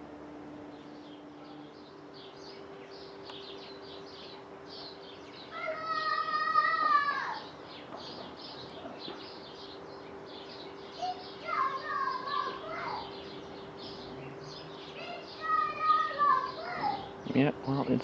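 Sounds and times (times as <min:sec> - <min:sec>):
birds chirping: 0:00.0 - 0:18.0
faint steady hum: 0:00.0 - 0:18.0.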